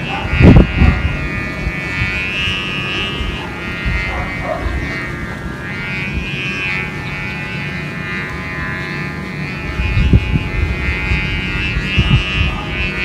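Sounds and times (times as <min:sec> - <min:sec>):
wind rumble on microphone: 0:00.0 - 0:07.5, 0:09.4 - 0:13.0
kite hummer buzzing drone: 0:00.0 - 0:13.0.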